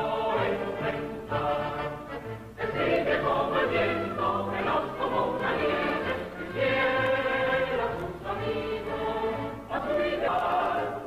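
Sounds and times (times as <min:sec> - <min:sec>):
choir singing held chords: 0:00.0 - 0:11.0.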